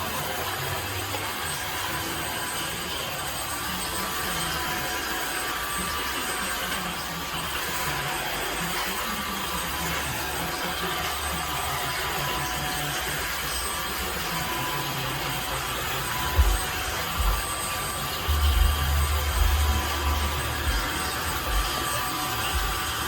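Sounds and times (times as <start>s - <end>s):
vacuum cleaner motor whooshing: 0.0s - 23.0s.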